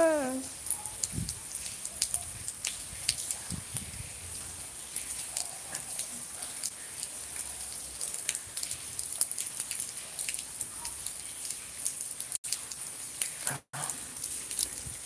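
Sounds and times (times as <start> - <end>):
raindrops spattering on surfaces: 0.0 - 15.0.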